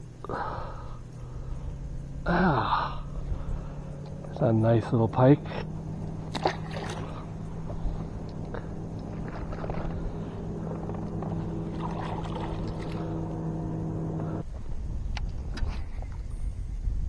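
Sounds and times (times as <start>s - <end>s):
steady motor hum: 0.0s - 15.6s.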